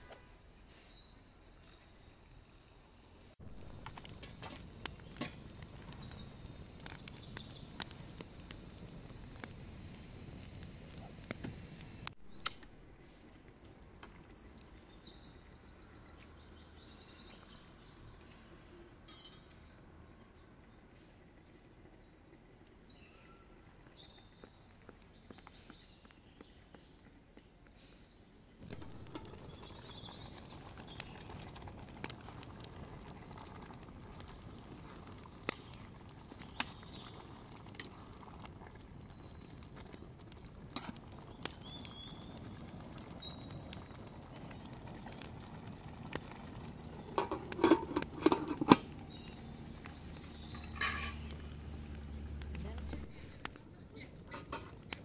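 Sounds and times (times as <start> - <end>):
small birds chirping: 0.4 - 55.0.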